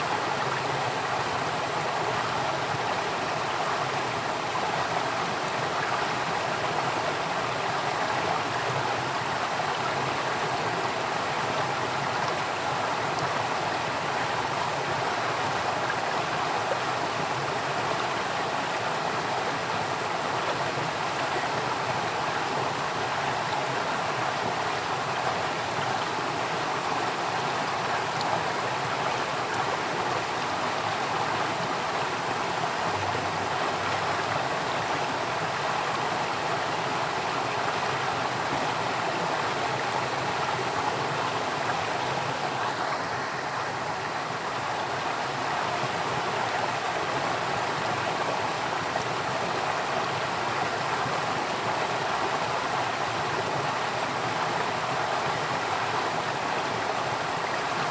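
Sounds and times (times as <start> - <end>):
water flowing: 0.0 - 57.9.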